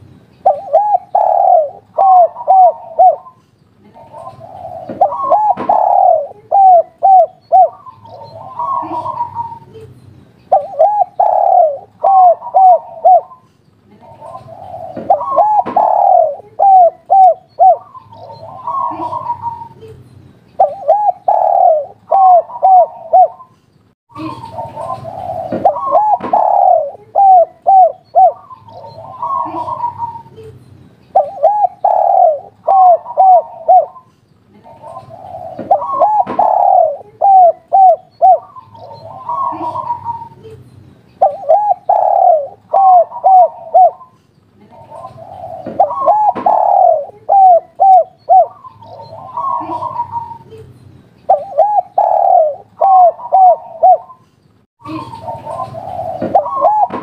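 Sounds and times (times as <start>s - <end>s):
dove cooing: 0.4s - 9.9s, 10.5s - 20.0s, 20.6s - 23.6s, 24.2s - 30.5s, 31.1s - 40.6s, 41.2s - 50.6s, 51.3s - 54.2s, 54.8s - 57.0s.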